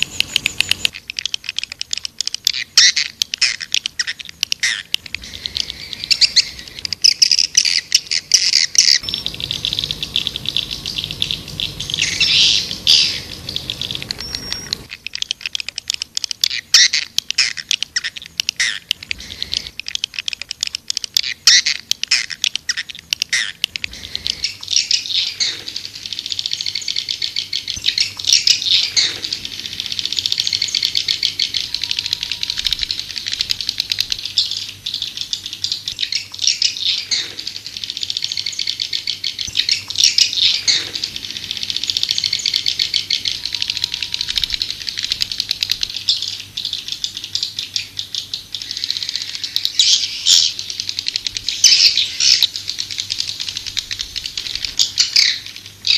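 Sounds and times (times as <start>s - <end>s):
swiftlets twittering: 0.0s - 55.9s.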